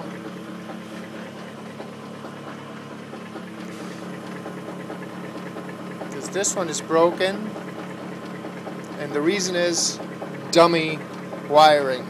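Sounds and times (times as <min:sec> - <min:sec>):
generator humming and whirring: 0:00.0 - 0:12.0.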